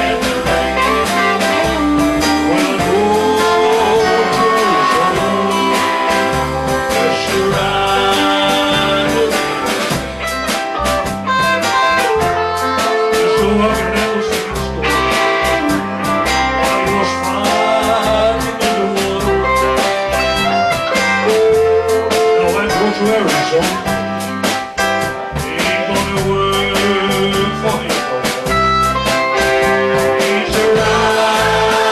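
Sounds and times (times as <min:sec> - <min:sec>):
band music: 0:00.0 - 0:31.9
steady drum beat: 0:00.0 - 0:31.9.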